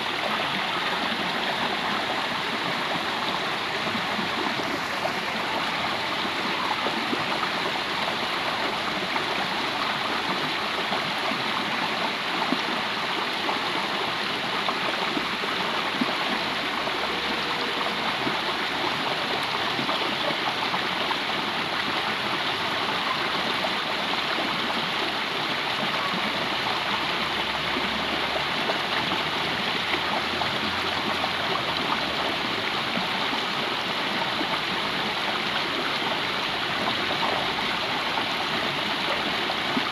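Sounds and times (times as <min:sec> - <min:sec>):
stream rushing and gurgling: 0:00.0 - 0:39.9.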